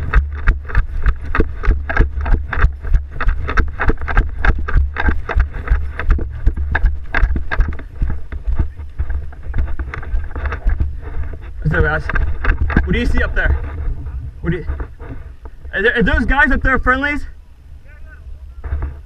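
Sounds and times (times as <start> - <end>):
quick footsteps crunching on ground: 0.0 - 17.2
wind rumble on microphone: 0.0 - 19.0.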